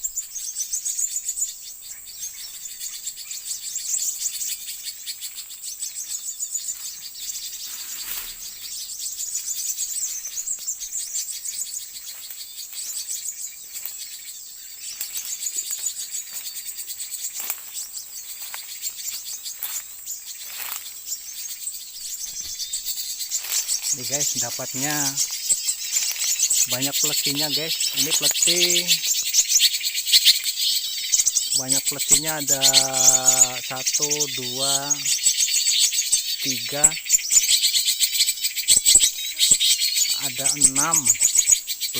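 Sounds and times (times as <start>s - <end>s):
birds chirping: 0.0s - 41.9s
insect drone: 0.0s - 41.9s.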